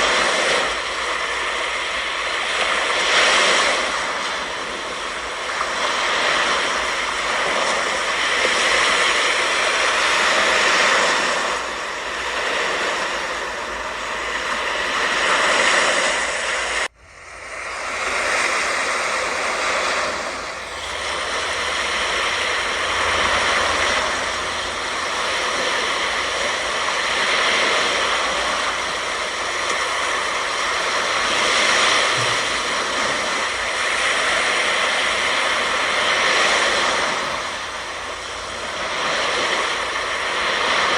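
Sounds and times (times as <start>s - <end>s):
ocean surf breaking: 0.0s - 40.9s.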